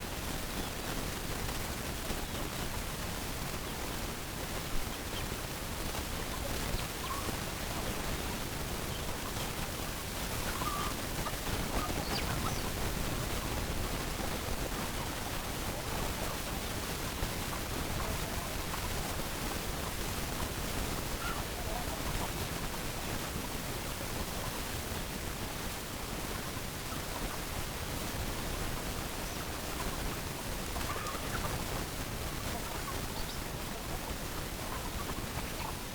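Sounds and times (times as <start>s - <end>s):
background hiss: 0.0s - 35.9s
faint chicken calls: 4.6s - 24.8s, 26.0s - 35.9s.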